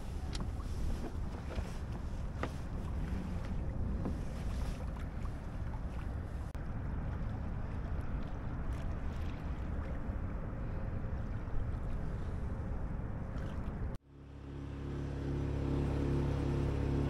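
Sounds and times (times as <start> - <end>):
water washing along hull: 0.0 - 14.0.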